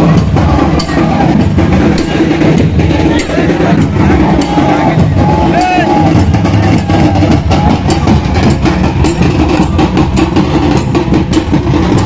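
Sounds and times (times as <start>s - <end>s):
loud festival drumming: 0.0s - 12.0s.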